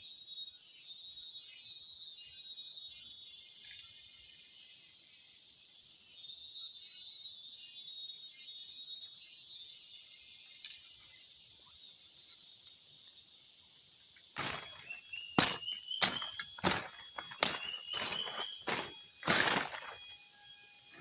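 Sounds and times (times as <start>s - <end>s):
forest insects droning: 2.3s - 21.0s.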